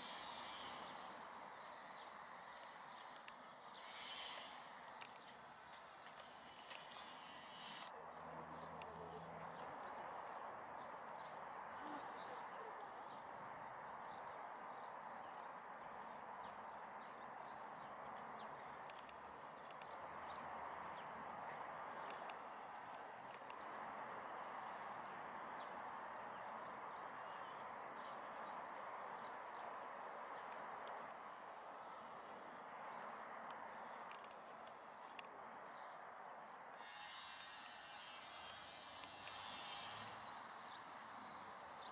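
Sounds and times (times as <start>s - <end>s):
faint outdoor rush: 0.0s - 41.9s
small birds chirping: 0.0s - 41.9s.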